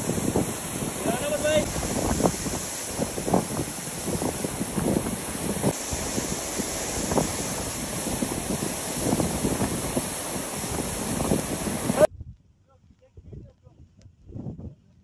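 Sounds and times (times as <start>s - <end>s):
waterfall pouring onto rocks: 0.0s - 12.1s
wind buffeting microphone: 0.0s - 15.0s.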